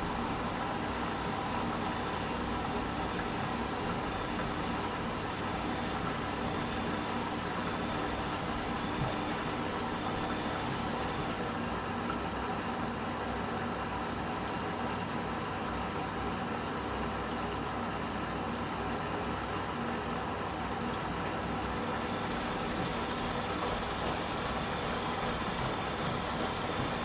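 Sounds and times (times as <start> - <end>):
washing machine running: 0.0 - 14.5, 19.7 - 27.0.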